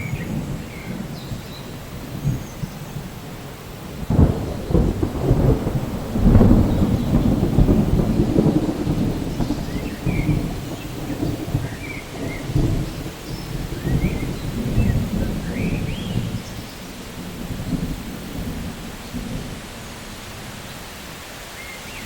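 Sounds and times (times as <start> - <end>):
thunder rumbling: 0.0 - 20.7
steady rain: 0.0 - 22.0.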